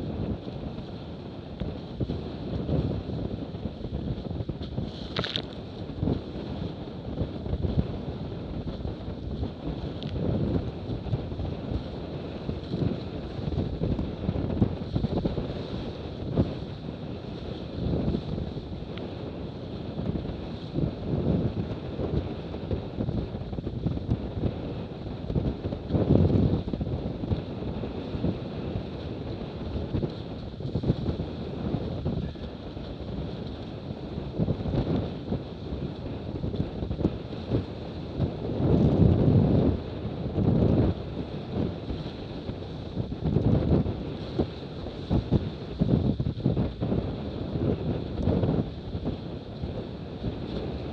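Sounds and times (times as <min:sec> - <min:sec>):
water splashing along a hull: 0:00.0 - 0:50.9
wind buffeting microphone: 0:00.0 - 0:50.9.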